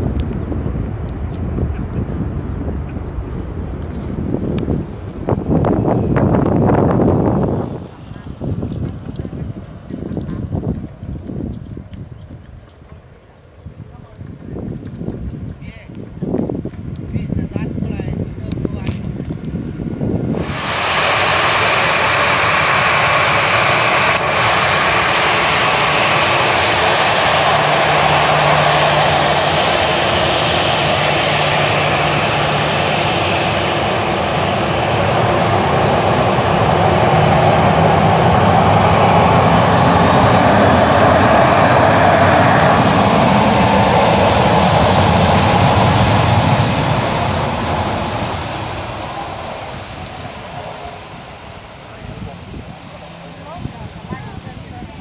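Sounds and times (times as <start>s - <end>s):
jet engines at taxi power: 0.0s - 55.0s.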